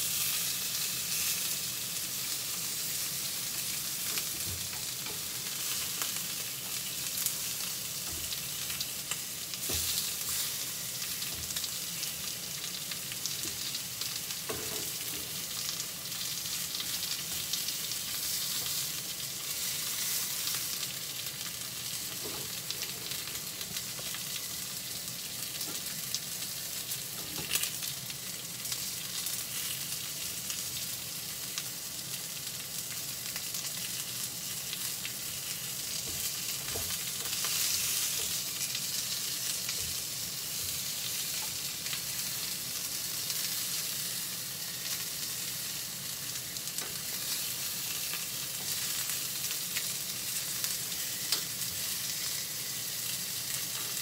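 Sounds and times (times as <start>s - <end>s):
meat sizzling in a frying pan: 0.0s - 54.0s.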